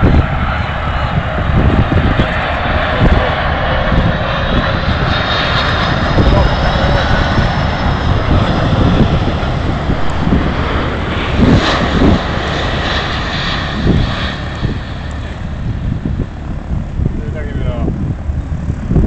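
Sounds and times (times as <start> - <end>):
high jet whine: 0.0 - 19.0
jet engines roaring: 0.0 - 19.0
wind buffeting microphone: 0.0 - 19.0.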